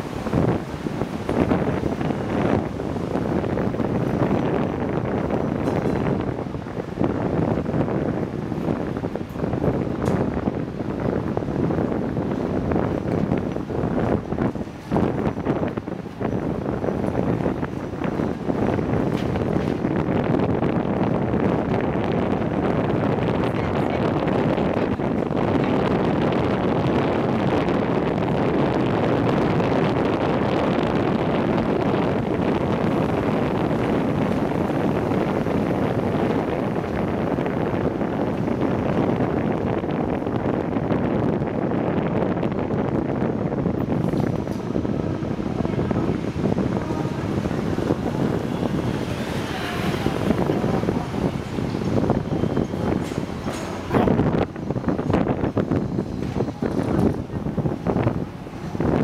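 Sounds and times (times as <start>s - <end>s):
tram running noise: 0.0s - 59.0s
wind noise on microphone: 0.0s - 59.0s.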